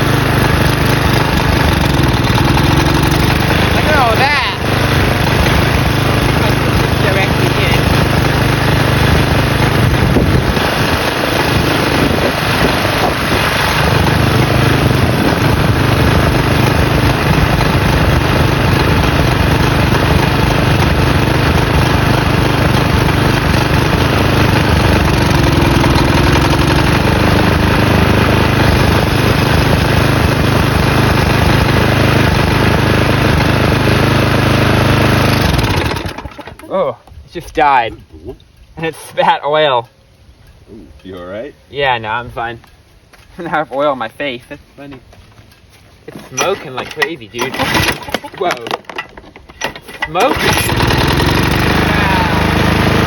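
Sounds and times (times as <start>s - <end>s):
lawn mower engine running: 0.0s - 37.6s, 44.8s - 53.0s.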